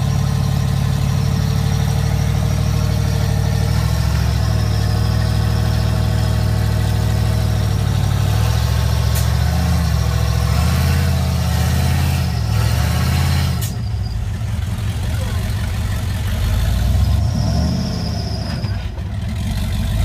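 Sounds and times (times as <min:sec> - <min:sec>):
buggy engine revving under load: 0:00.0 - 0:20.0.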